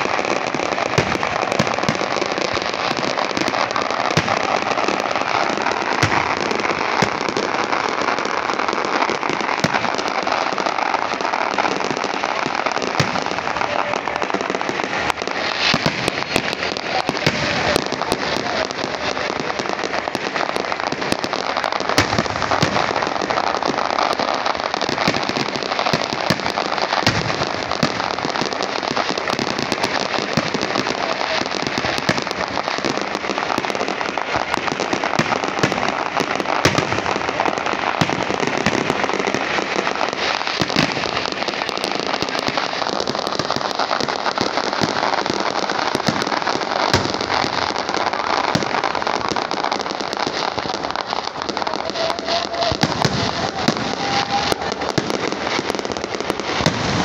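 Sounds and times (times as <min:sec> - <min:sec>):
fireworks crackling: 0:00.0 - 0:57.0
fireworks popping: 0:00.0 - 0:57.0.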